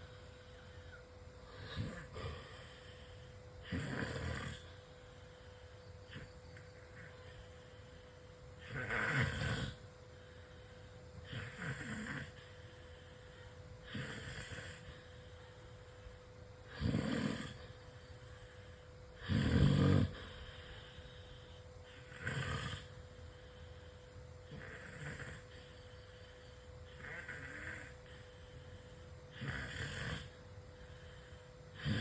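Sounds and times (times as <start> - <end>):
person snoring loudly: 0.0 - 10.3, 11.2 - 13.0, 13.8 - 15.5, 16.6 - 18.0, 18.6 - 28.6, 29.3 - 32.0.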